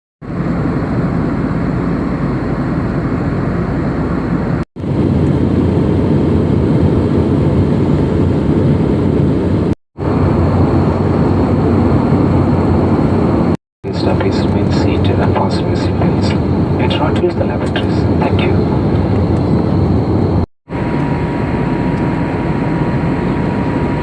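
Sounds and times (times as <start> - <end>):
airliner cabin roar: 0.2 - 24.0.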